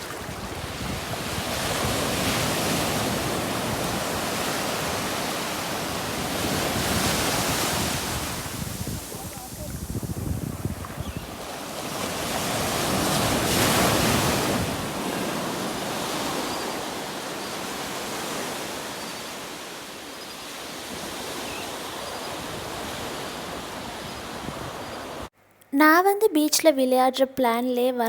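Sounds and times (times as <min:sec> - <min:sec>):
sea waves breaking on beach: 0:00.0 - 0:25.3.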